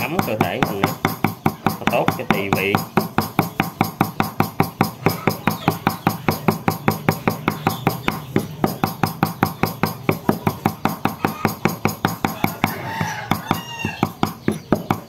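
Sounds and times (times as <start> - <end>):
knife chopping on cutting board: 0.0 - 15.0.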